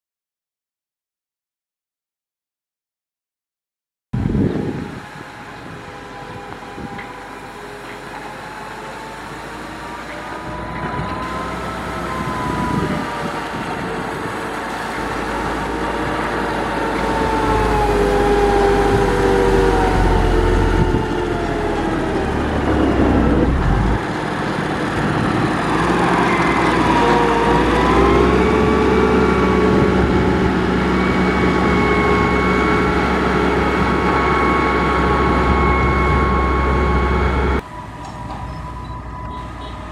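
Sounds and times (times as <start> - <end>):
construction machine diesel engine: 4.2 - 39.9.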